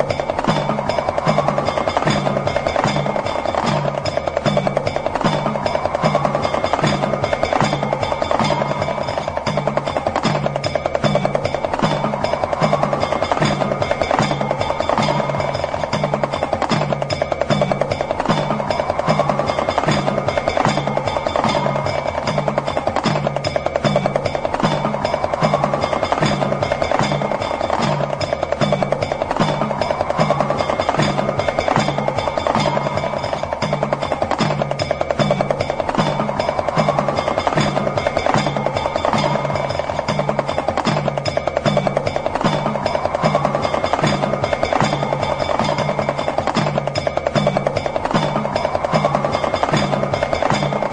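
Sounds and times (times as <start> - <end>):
hand drum rattling roll: 0.0 - 50.9.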